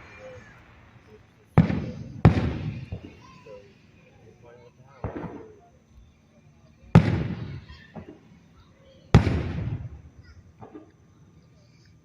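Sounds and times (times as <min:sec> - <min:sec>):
rolling echo: 0:00.0 - 0:06.0, 0:06.8 - 0:11.4
firework bursting with bang: 0:00.0 - 0:06.1, 0:06.8 - 0:11.2.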